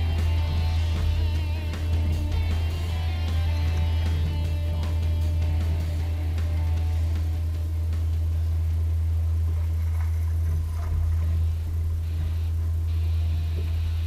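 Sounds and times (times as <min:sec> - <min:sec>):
electric trolling motor hum: 0:00.0 - 0:14.0.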